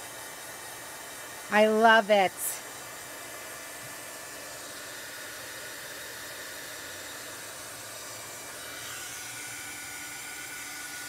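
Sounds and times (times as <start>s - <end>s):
handheld dryer blowing: 0.0s - 11.0s.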